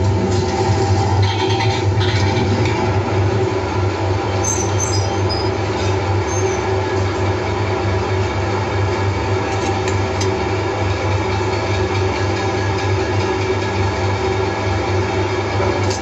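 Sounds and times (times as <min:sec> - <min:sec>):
can sealing machine humming: 0:00.0 - 0:16.0.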